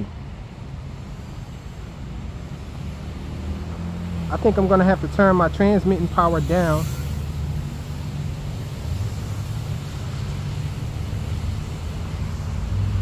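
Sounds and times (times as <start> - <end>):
even hiss: 0.9 - 13.0.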